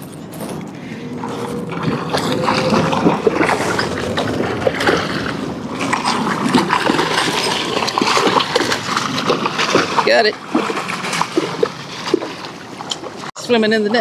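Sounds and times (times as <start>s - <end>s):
fish splashing in water: 1.1s - 13.3s.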